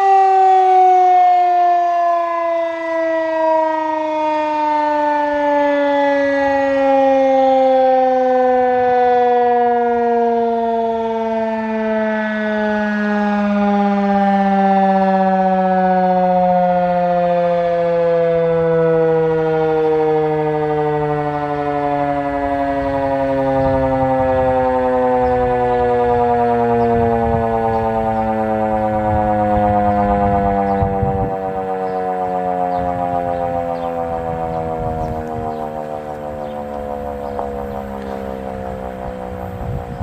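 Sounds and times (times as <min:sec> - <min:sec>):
warning siren winding down: 0:00.0 - 0:40.0.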